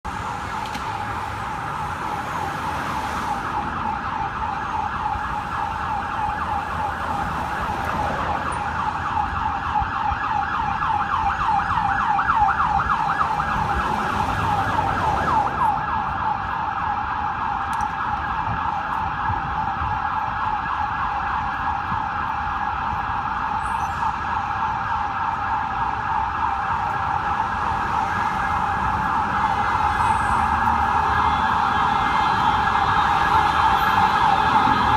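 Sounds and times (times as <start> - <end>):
ambulance siren: 0.0 - 34.9
low rumble of traffic: 0.0 - 34.9.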